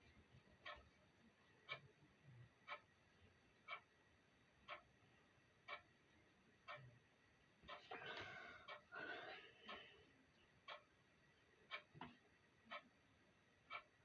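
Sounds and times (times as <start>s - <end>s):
clock ticking faintly: 0.0s - 14.0s.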